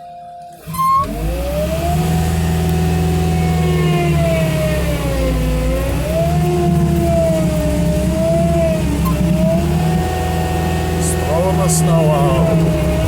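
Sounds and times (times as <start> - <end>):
diesel engine running hard: 0.5 - 13.0
snow thrower whine: 0.5 - 13.0.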